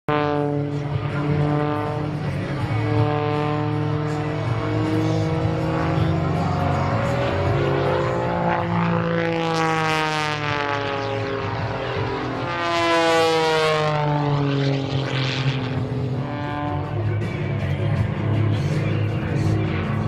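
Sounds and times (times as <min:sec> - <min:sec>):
propeller airplane flying past: 0:00.1 - 0:20.0.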